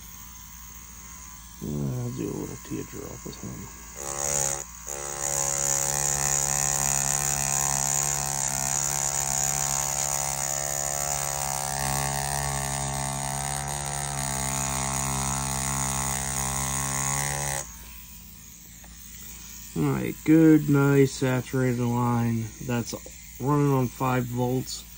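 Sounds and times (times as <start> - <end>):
tattoo machine motor buzz: 0.0 - 24.9.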